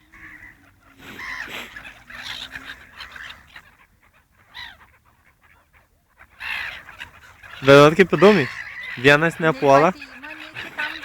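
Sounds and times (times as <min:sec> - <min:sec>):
birds squabbling calls: 0:00.0 - 0:11.0.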